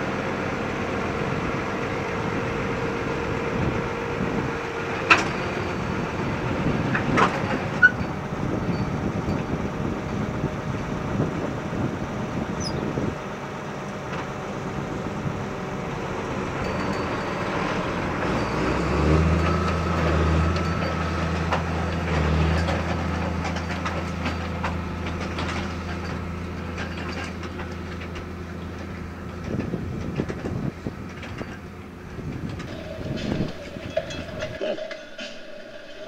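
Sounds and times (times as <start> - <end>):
planter rattling and clanking: 0.0 - 36.0
tractor diesel engine under load: 0.0 - 36.0.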